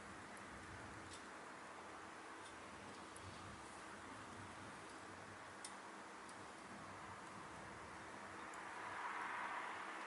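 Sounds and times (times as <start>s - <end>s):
fire crackling: 0.0s - 10.0s
wood fire flame rushing: 0.0s - 10.0s.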